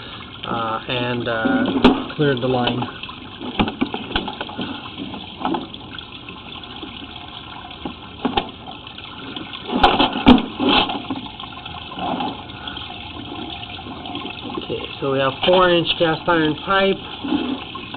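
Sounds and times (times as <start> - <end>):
water rushing in a drain: 0.0 - 17.9.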